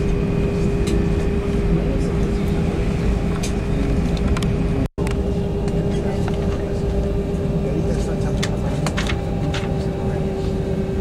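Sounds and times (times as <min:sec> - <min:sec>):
airliner engines rumbling: 0:00.0 - 0:11.0
steady engine whine: 0:00.0 - 0:11.0.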